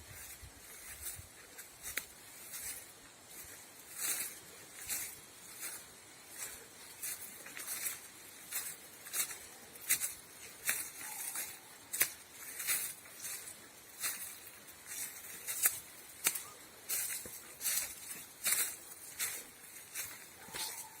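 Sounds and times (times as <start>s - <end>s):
footsteps crunching through undergrowth: 0.0s - 21.0s.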